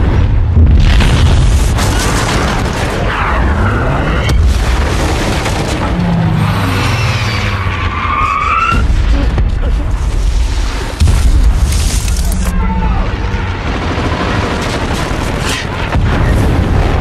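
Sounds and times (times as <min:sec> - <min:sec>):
bomb explosions rumbling: 0:00.0 - 0:06.8, 0:08.7 - 0:17.0.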